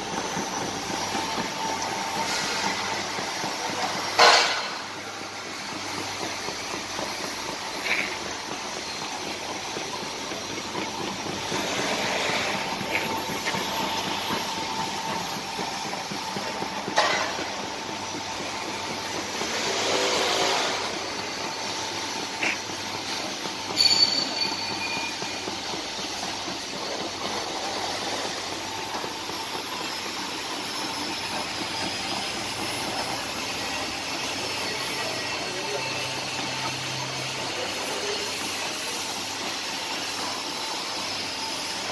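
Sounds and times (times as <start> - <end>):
belt conveyor humming: 0.0 - 41.9.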